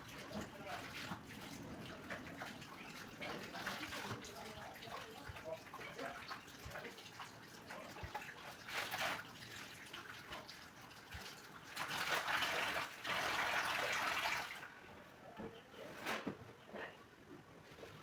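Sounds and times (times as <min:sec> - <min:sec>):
running water splashing: 0:00.0 - 0:14.7.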